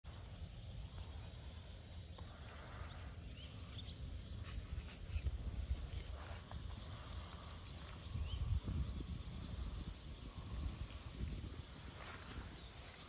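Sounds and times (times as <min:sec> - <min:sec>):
bird chirping: 0:00.1 - 0:13.0.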